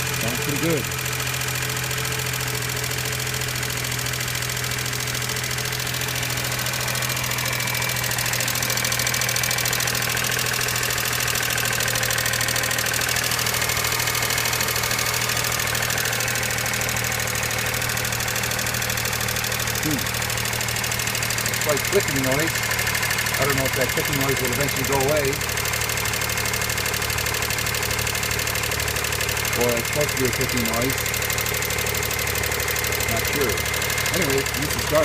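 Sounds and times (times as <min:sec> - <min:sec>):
car engine running: 0:00.0 - 0:35.0
engine clicking: 0:00.0 - 0:35.0.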